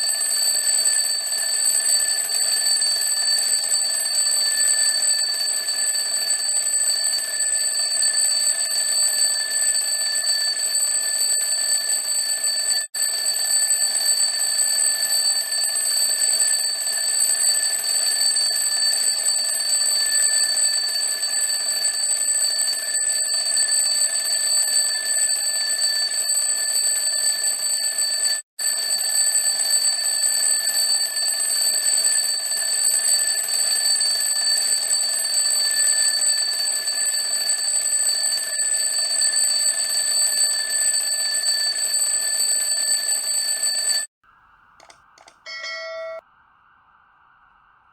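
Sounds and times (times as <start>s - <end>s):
alarm clock ringing: 0.0s - 44.1s, 45.4s - 46.2s.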